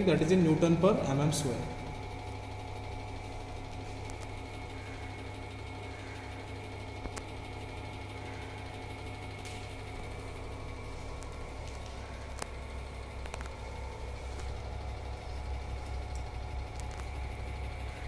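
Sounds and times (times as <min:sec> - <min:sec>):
testing machine humming: 0:00.0 - 0:18.0.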